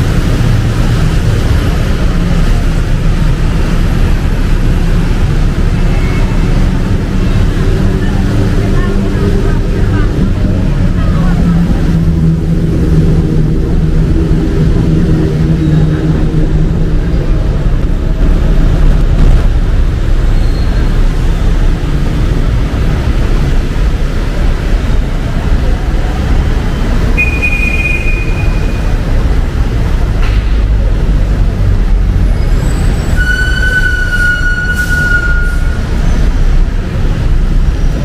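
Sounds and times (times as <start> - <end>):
engine hum: 0.0 - 38.0
traffic rumble: 0.0 - 38.0.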